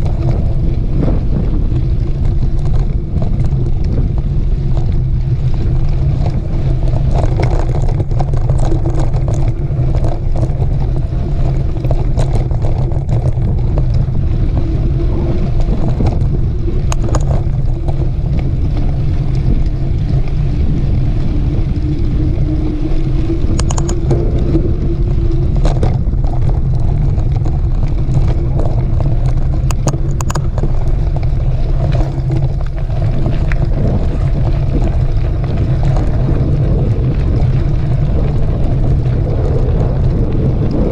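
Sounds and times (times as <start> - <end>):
bike clicks and rattles: 0.0 - 40.9
wind rushing over microphone: 0.0 - 40.9.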